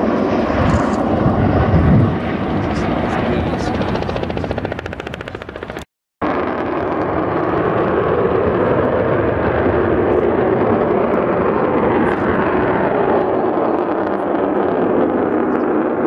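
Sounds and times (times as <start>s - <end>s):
aircraft engine roar: 0.0s - 16.0s.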